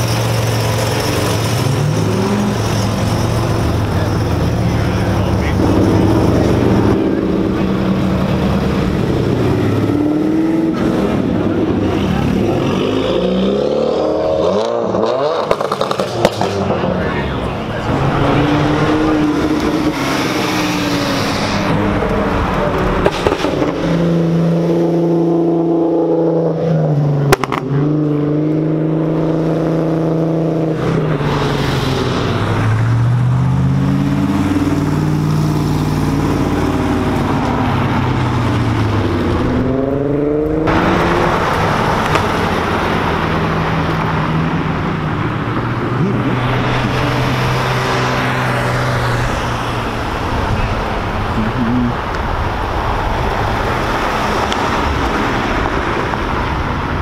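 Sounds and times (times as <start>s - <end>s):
sports cars accelerating past: 0.0s - 57.0s.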